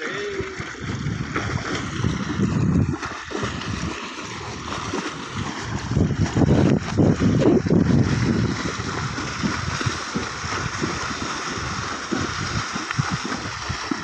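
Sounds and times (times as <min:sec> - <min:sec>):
horse splashing through water: 0:00.0 - 0:14.0.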